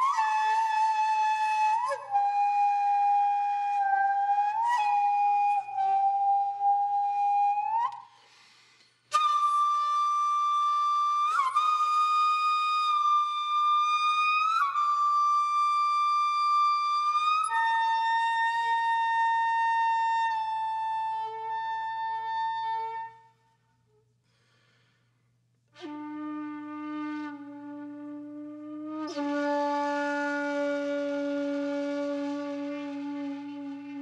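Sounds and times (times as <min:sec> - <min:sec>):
solo flute long notes: 0:00.0 - 0:08.4, 0:09.1 - 0:23.4, 0:25.7 - 0:34.0.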